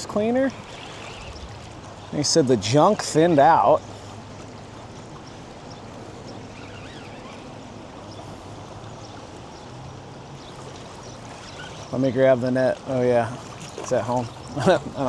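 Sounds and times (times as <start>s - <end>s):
floodwater rushing in river: 0.0s - 15.0s.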